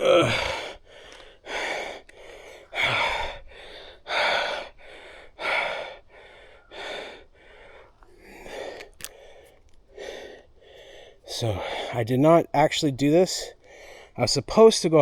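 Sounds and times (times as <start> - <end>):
man breathing hard: 0.0 - 12.0, 13.5 - 14.2.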